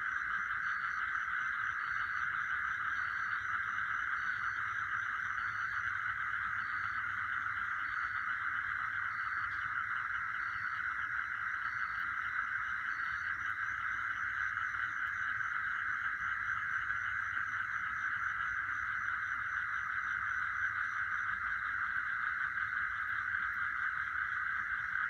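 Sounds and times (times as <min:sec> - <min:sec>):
insects trilling: 0:00.0 - 0:25.0
pulsed insect chirping: 0:00.0 - 0:25.0.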